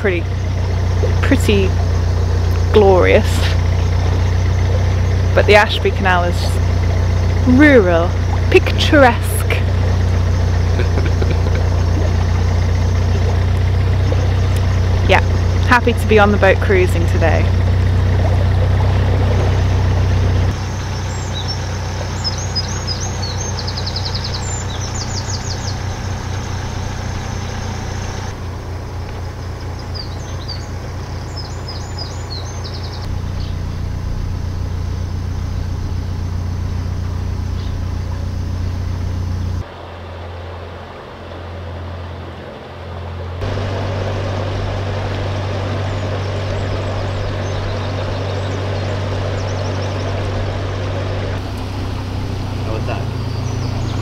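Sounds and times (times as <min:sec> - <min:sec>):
songbirds chirping: 0:00.0 - 0:39.7, 0:43.4 - 0:54.0
boat engine humming: 0:00.0 - 0:54.0.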